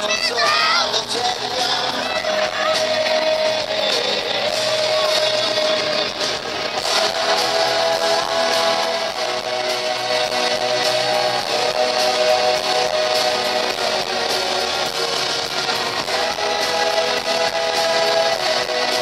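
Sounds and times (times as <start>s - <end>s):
live pop-rock band music: 0.0s - 19.0s
steady drum beat: 1.0s - 19.0s.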